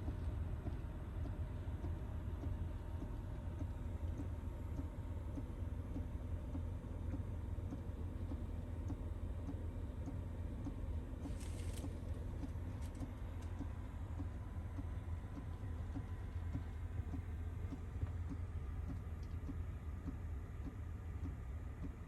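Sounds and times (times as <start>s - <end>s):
fuel pump ticking: 0.0s - 22.0s
heater fan and burner hum: 0.0s - 22.0s.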